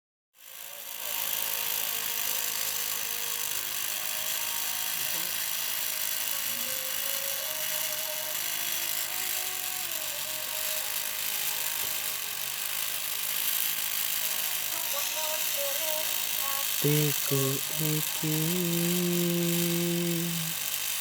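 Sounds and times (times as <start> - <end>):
faint music with singing: 0.4 - 21.0
tattoo machine motor running: 0.4 - 21.0.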